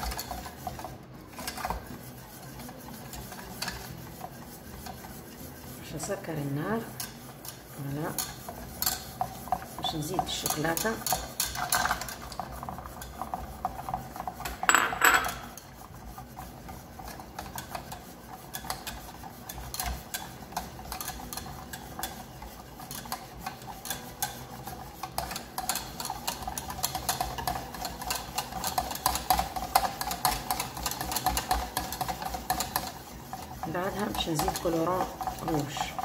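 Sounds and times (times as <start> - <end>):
whisk scraping a saucepan: 0.0 - 36.0.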